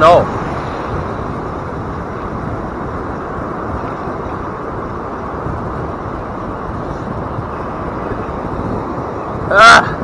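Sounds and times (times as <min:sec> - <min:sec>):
surf washing in: 0:00.0 - 0:10.0
wind on microphone: 0:00.0 - 0:10.0.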